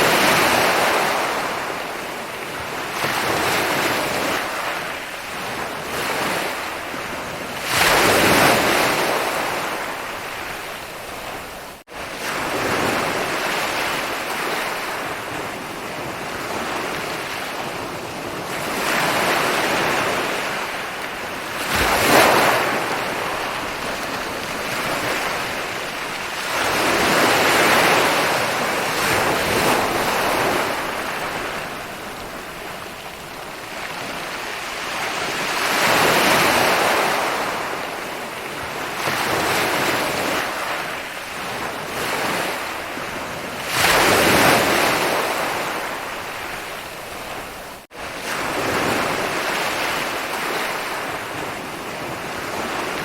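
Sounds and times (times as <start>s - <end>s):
ocean waves breaking on a beach: 0.0s - 53.0s.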